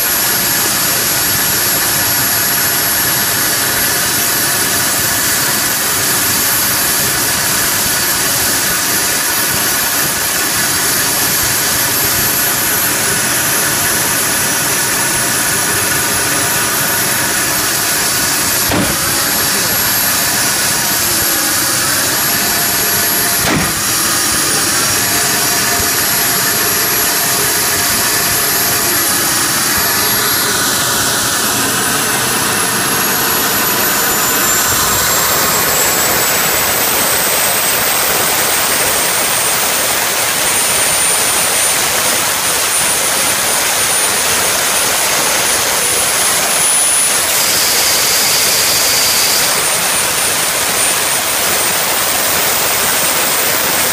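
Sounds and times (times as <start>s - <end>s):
high turbine whine: 0.0s - 53.9s
jet engine running loudly: 0.0s - 53.9s.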